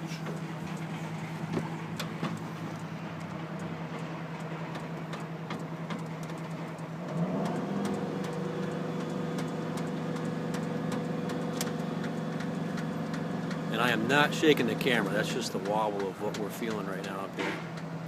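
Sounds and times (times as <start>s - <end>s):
truck engine and hydraulics: 0.0s - 18.0s.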